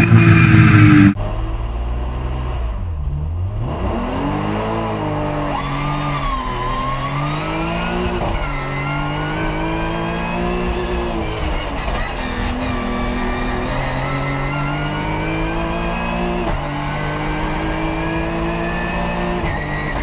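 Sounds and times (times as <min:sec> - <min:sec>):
race car engine accelerating: 0:00.0 - 0:20.0.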